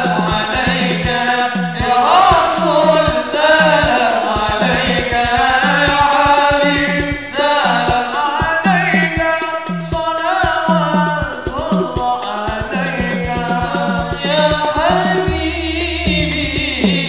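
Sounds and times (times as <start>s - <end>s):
frame drums beating: 0.0s - 17.0s
man singing into a microphone: 0.0s - 17.0s
voices singing along: 0.0s - 17.0s.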